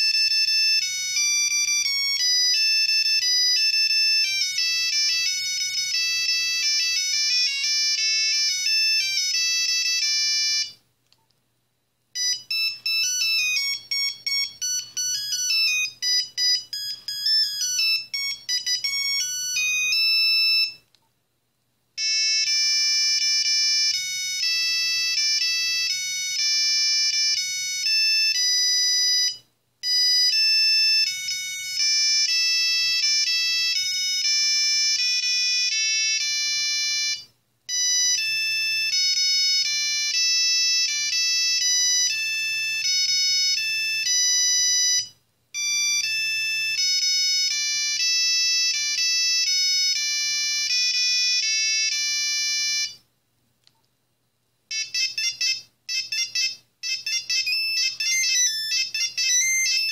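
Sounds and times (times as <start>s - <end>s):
monophonic phone ringtones: 0.0s - 10.8s, 12.2s - 20.8s, 22.0s - 53.0s, 54.7s - 59.9s.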